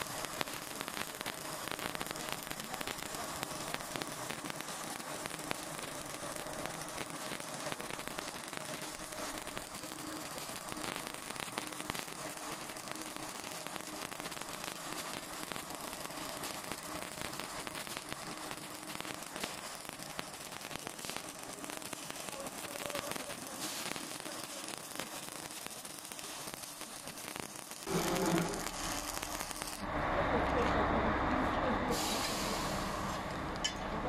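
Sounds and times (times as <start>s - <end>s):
welding arc crackling: 0.0s - 30.7s.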